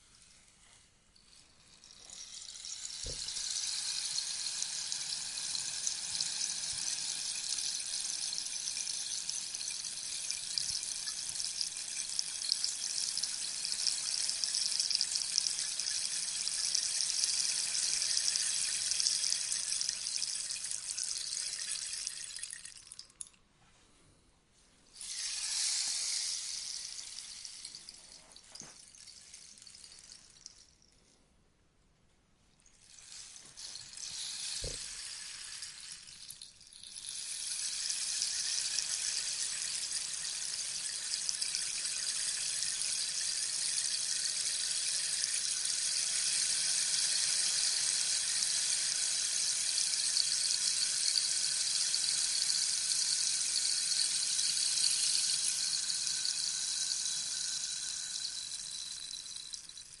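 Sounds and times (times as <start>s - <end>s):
rainstick pebbles trickling: 1.2s - 23.4s, 25.0s - 31.0s, 32.6s - 60.0s.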